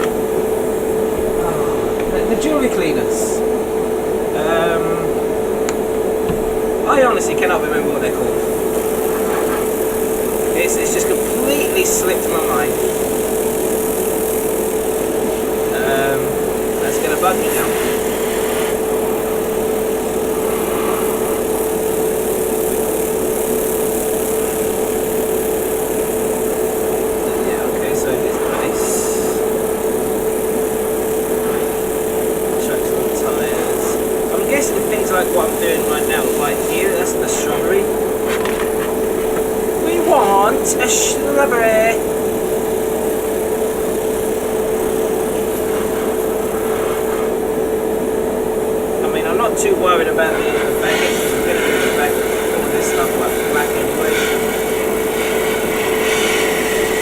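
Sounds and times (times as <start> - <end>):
air compressor humming: 0.0 - 57.0
hiss of air: 0.0 - 57.0.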